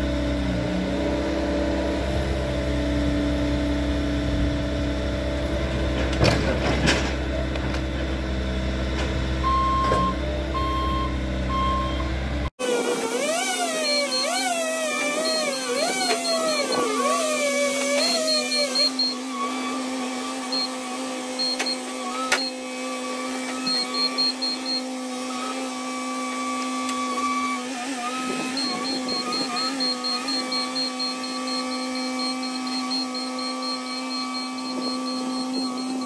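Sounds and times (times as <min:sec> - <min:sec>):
track loader diesel engine running: 0:00.0 - 0:12.5, 0:13.2 - 0:36.0.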